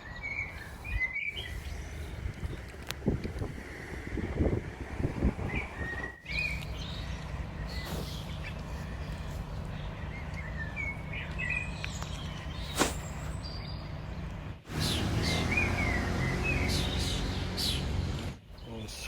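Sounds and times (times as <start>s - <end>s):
low outdoor rumble: 0.0s - 19.0s
small birds chirping: 0.0s - 19.0s.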